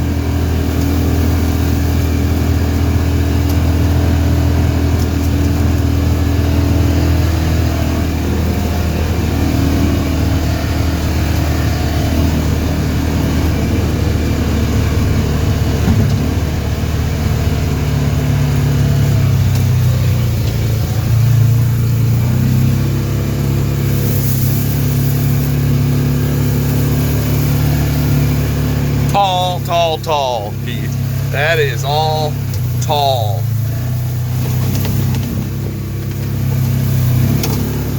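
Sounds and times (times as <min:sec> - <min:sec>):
utility vehicle engine running: 0:00.0 - 0:37.9.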